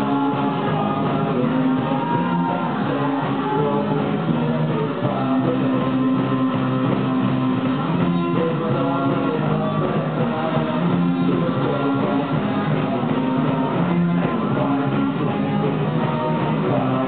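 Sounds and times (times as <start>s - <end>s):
bass guitar: 0.0s - 17.0s
drum kit: 0.0s - 17.0s
electric guitars: 0.0s - 17.0s.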